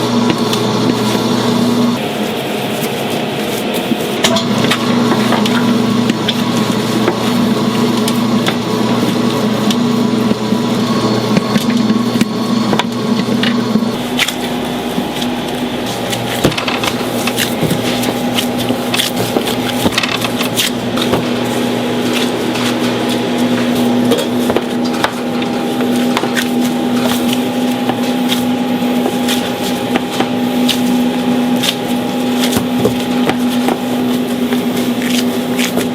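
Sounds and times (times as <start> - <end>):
kitchen machinery humming: 0.0 - 35.9
utensils and trays clattering: 0.2 - 10.4, 11.1 - 35.9.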